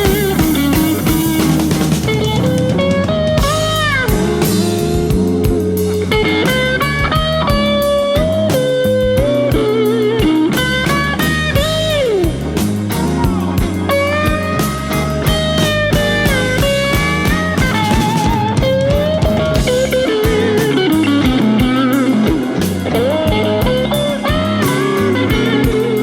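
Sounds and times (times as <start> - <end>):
bass and drums: 0.0 - 26.0
electric guitar solo: 0.0 - 26.0.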